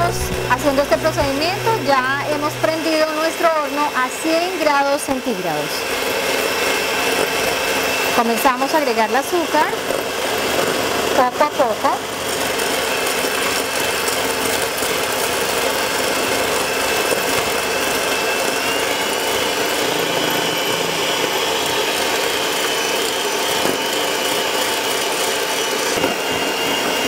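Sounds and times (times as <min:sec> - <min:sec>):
electric hand mixer whirring: 0:00.0 - 0:27.0.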